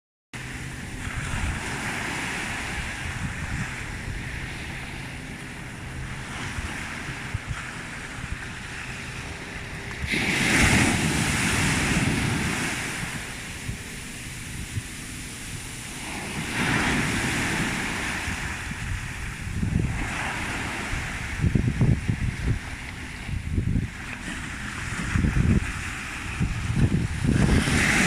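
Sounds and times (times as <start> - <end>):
sea waves washing on shore: 0.4 - 28.0
wind buffeting microphone: 0.4 - 28.0.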